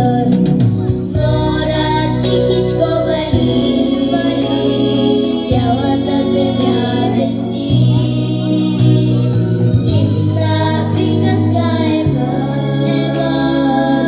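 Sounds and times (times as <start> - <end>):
bass line: 0.0 - 14.0
girls singing into microphones: 0.0 - 14.0
instrumental accompaniment: 0.0 - 14.0.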